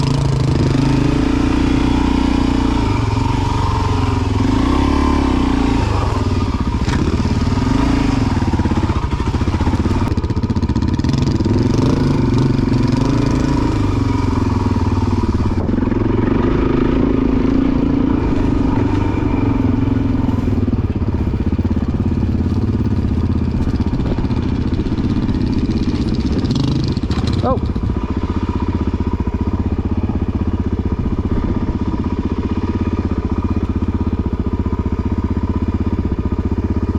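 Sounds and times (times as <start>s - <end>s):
dirt bike engine revving: 0.0s - 34.4s.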